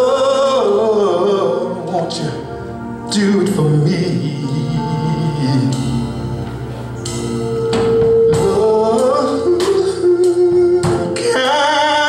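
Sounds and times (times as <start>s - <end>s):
live gospel worship music: 0.0s - 12.0s.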